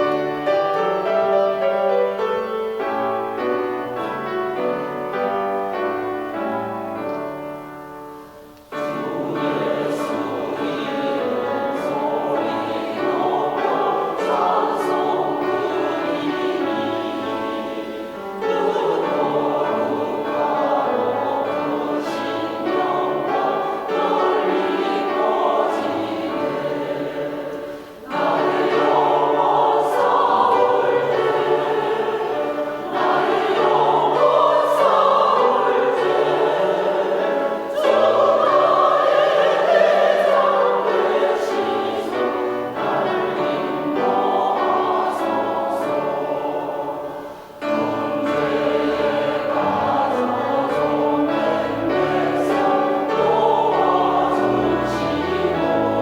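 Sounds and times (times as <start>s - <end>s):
church choir singing a hymn: 0.0s - 56.0s.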